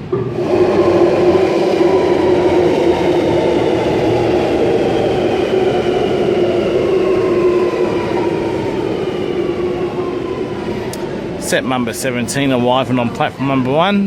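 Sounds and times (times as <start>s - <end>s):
traction motor whine falling in pitch: 0.0s - 12.3s
metro train running noise: 0.0s - 14.0s.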